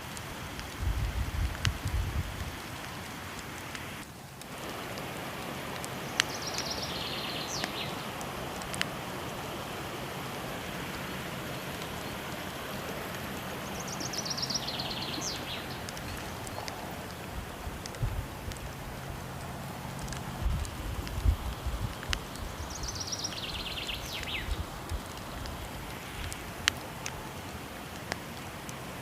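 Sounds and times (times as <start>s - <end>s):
sharp pops from fire: 0.0s - 9.1s, 10.7s - 23.5s, 24.1s - 28.8s
fire crackling: 0.0s - 29.0s
waterfall rushing: 1.7s - 29.0s.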